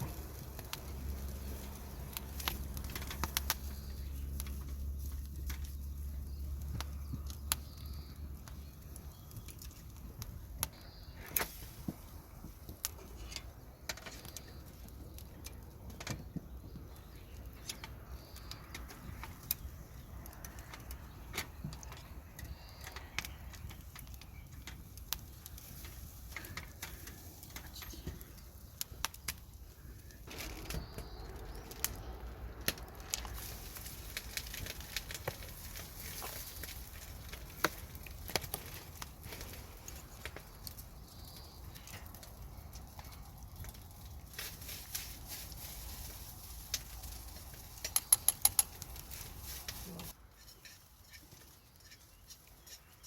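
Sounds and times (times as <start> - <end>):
sharp clicks and light knocks: 0.0 - 45.0, 46.7 - 53.0.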